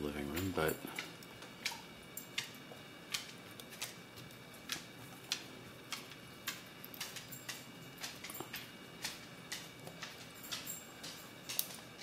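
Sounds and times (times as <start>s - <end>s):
combination dial wheels clicking: 0.0s - 12.0s.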